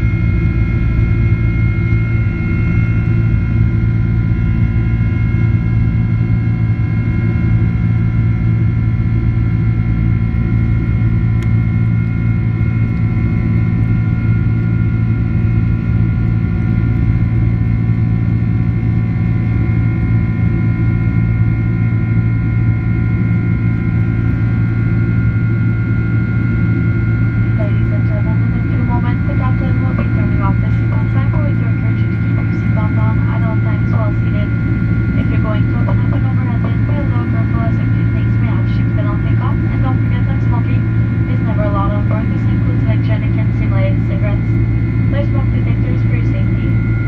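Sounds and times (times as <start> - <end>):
high engine whine: 0.0 - 47.0
jet engine drone in cabin: 0.0 - 47.0.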